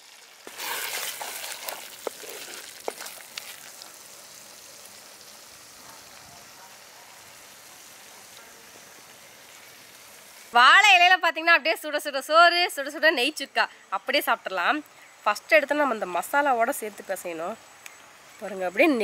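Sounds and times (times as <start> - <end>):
prawns sizzling in a pot: 0.0 - 19.0.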